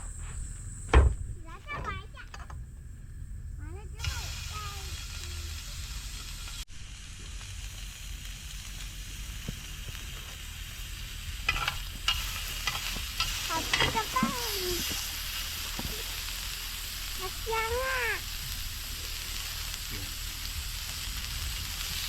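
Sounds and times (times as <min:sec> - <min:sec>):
pork frying in a pan: 0:03.8 - 0:22.0.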